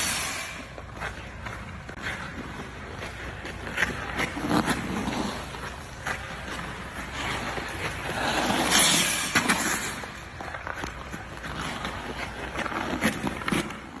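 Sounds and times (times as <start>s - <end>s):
skates scraping on ice: 0.0s - 14.0s.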